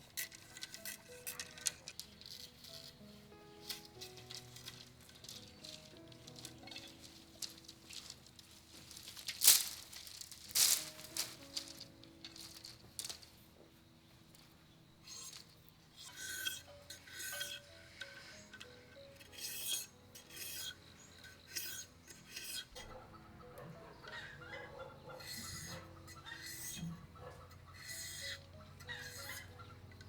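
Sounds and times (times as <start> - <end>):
hand scraping bamboo: 0.0 - 3.0, 3.6 - 13.4, 15.0 - 22.9, 25.3 - 26.9, 27.8 - 29.6.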